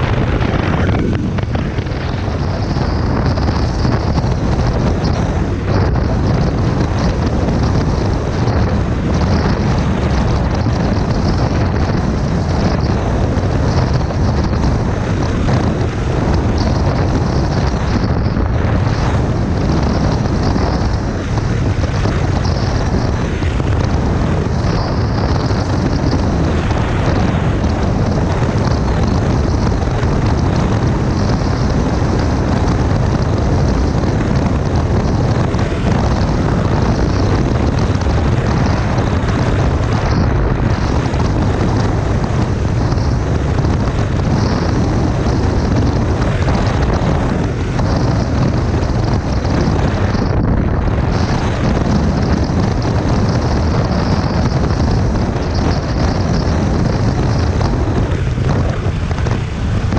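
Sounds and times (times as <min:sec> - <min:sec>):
motorcycle engine cruising: 0:00.0 - 0:59.9
wind rush over microphone: 0:00.0 - 0:59.9.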